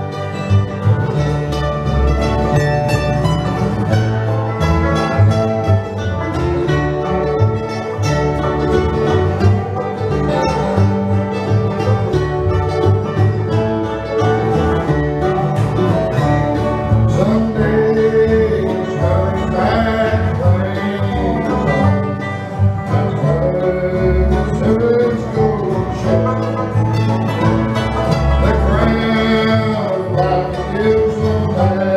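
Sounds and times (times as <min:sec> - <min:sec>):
picked mandolin: 0:00.0 - 0:31.9
strummed acoustic guitar: 0:00.0 - 0:31.9
upright bass walking line: 0:00.0 - 0:31.9.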